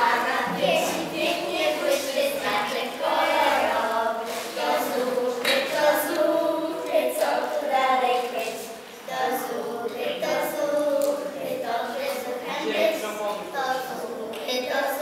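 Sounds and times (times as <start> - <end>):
children singing into microphones: 0.0 - 15.0.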